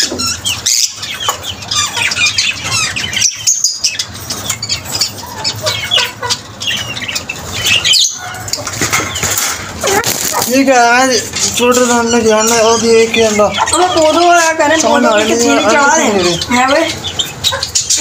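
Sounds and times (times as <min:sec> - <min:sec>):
lovebirds chattering: 0:00.0 - 0:18.0.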